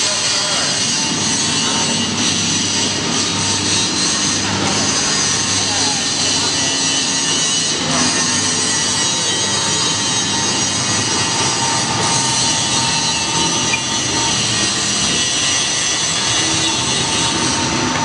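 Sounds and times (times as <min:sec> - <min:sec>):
grinding machine running: 0:00.0 - 0:18.0.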